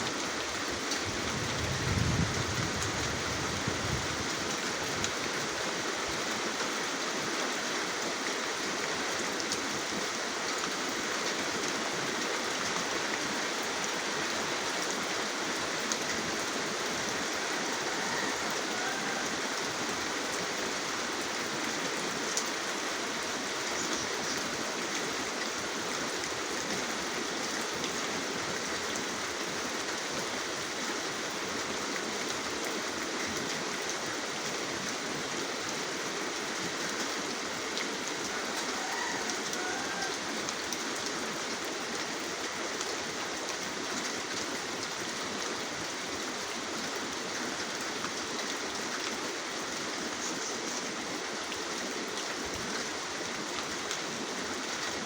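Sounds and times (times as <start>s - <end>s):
raindrops pattering: 0.0s - 55.0s
steady rain hiss: 0.0s - 55.0s.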